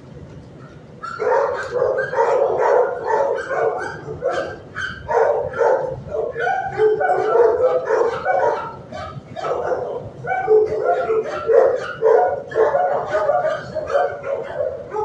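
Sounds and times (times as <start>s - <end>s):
dogs barking: 0.6s - 15.0s.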